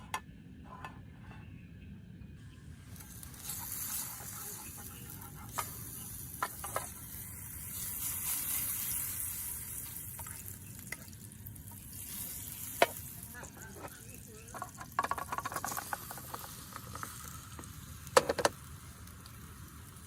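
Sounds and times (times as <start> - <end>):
food sizzling in pan: 2.8 - 20.0.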